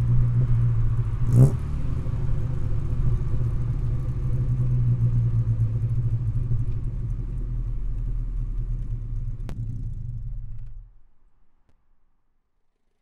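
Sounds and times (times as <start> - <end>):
car exhaust idling: 0.0 - 10.9.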